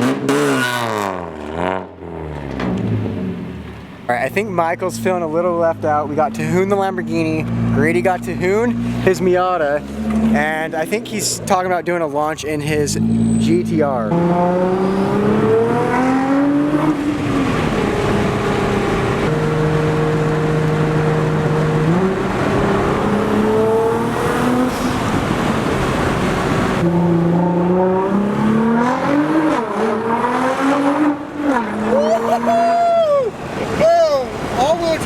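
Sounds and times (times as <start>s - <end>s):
car engine revving: 0.0s - 32.8s
car taking off: 0.0s - 35.0s.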